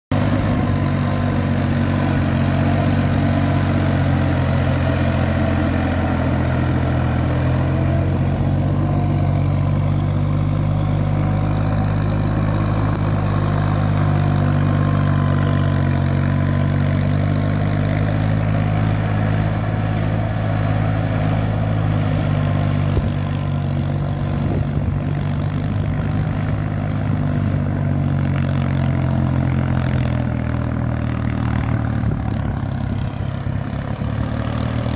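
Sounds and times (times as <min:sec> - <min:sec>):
tractor diesel engine drone: 0:00.1 - 0:34.9.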